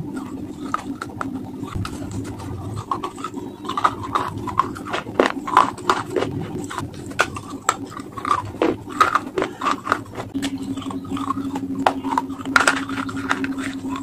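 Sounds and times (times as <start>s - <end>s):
chewing and mouth sounds: 0.0s - 14.0s
low hum: 0.0s - 14.0s.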